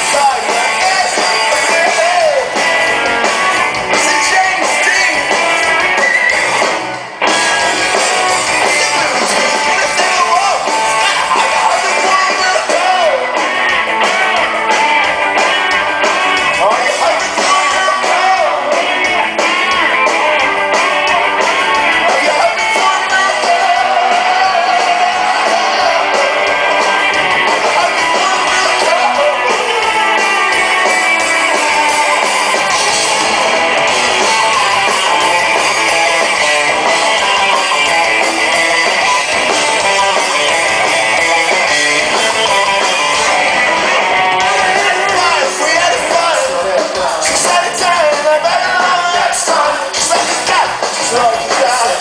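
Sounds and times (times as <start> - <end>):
rock band playing live: 0.0 - 52.0
strummed electric guitars: 0.0 - 52.0.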